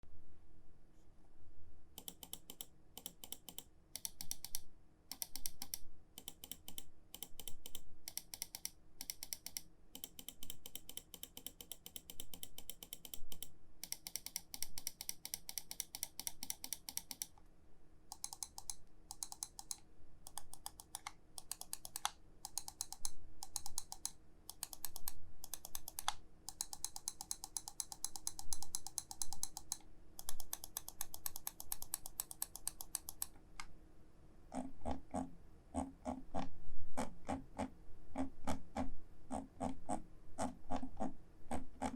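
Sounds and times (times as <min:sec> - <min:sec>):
mouse buttons clicking rapidly: 0:02.0 - 0:17.4, 0:18.1 - 0:33.7, 0:34.5 - 0:41.9.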